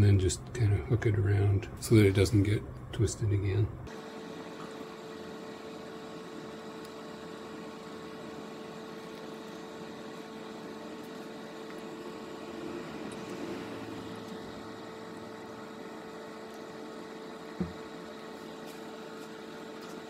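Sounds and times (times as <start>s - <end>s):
steady mid-pitched hum: 0.0s - 20.0s.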